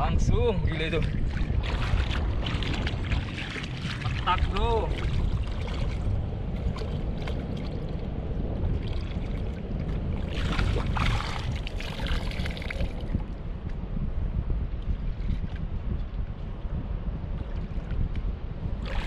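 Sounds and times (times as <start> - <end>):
water splashing and sloshing: 0.0 - 13.8, 14.6 - 19.0
wind rumble on microphone: 0.0 - 19.0.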